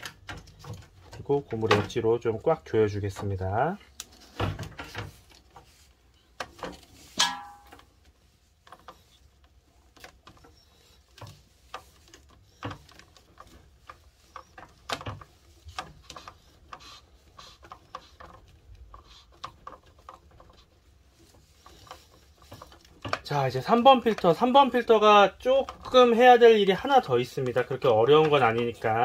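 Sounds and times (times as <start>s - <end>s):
plastic fittings clicking and knocking: 0.0s - 29.0s.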